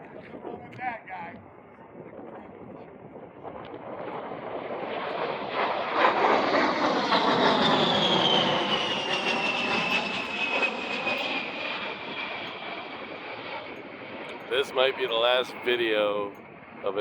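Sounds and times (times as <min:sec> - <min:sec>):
jet passing low: 0:00.0 - 0:17.0
high jet whine falling in pitch: 0:03.4 - 0:17.0.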